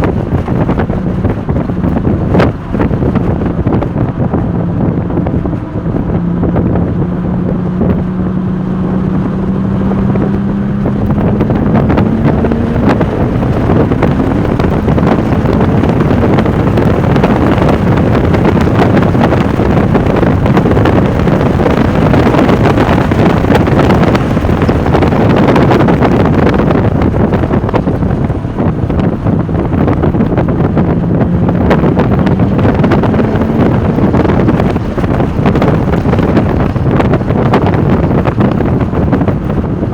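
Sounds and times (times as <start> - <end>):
car engine pulling hard: 0.0 - 39.9
wind buffeting microphone: 0.0 - 39.9.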